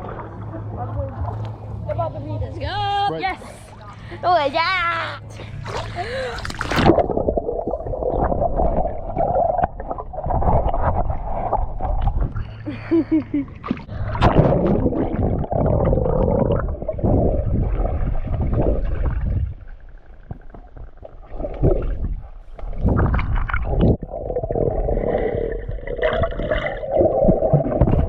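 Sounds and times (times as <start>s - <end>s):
pool water sloshing and gurgling: 0.0s - 1.7s, 5.3s - 28.0s
water splashes: 0.0s - 1.7s, 5.4s - 28.0s.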